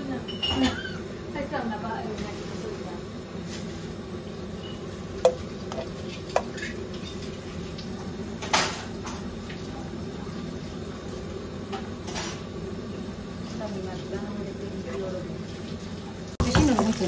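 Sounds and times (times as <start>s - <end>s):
butter melting in a pan: 0.0s - 17.0s.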